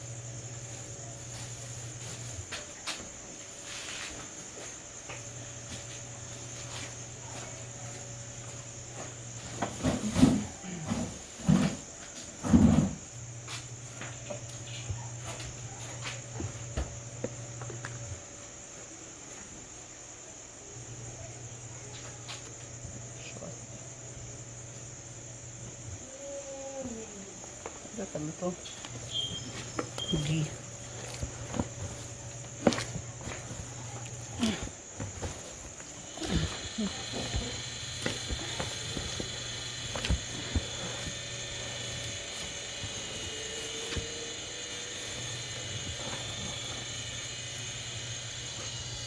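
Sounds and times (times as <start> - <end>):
crickets chirring: 0.0 - 49.0.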